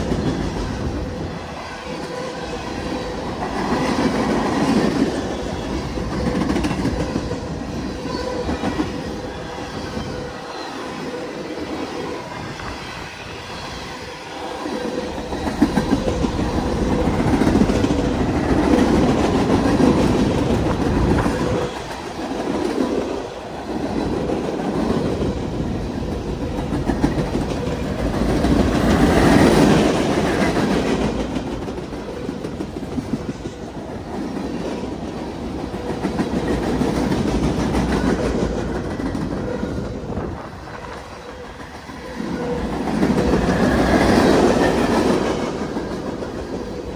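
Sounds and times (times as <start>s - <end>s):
freight train rumbling past: 0.0s - 46.9s
steel wheels clattering on rails: 0.0s - 46.9s.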